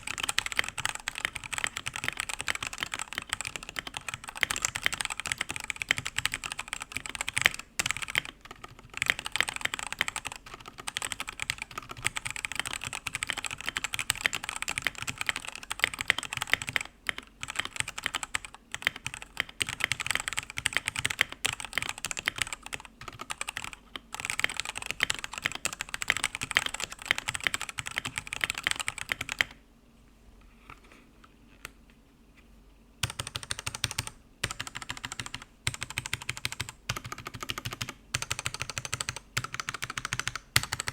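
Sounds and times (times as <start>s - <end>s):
mechanical keyboard typing: 0.0s - 29.6s, 33.0s - 40.9s.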